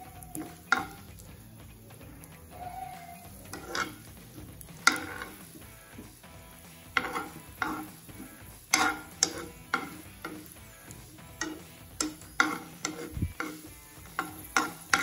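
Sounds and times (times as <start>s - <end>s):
metal spoon scraping a pan: 0.0s - 1.4s, 2.0s - 15.0s
faint sizzle: 0.0s - 15.0s.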